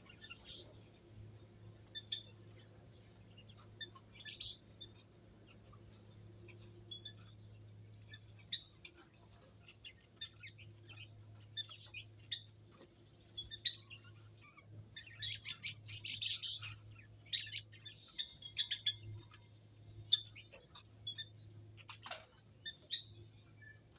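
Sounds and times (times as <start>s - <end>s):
low steady hum: 0.0s - 23.9s
small birds chirping: 0.0s - 23.9s.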